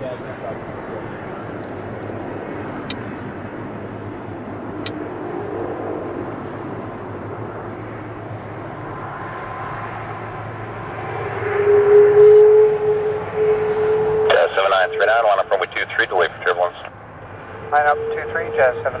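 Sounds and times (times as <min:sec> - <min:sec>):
jet engine whine: 0:00.0 - 0:19.0
jet engines roaring: 0:00.0 - 0:19.0.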